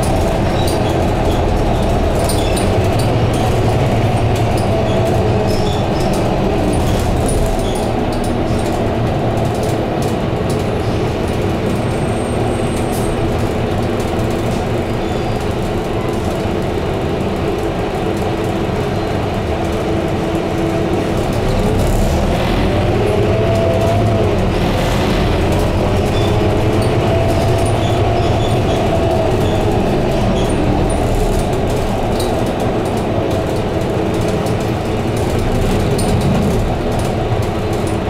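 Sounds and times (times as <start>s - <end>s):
bus diesel engine running: 0.0s - 38.0s
road rumble: 0.0s - 38.0s.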